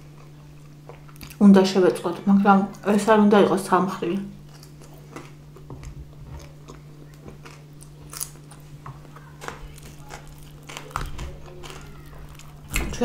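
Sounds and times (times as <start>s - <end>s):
chewing and crunching food: 0.0s - 3.1s, 4.3s - 13.0s.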